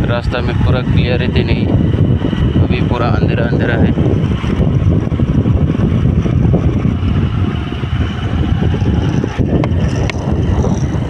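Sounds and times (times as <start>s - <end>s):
motorbike engine running: 0.0s - 11.0s
wind rushing on microphone: 0.0s - 11.0s.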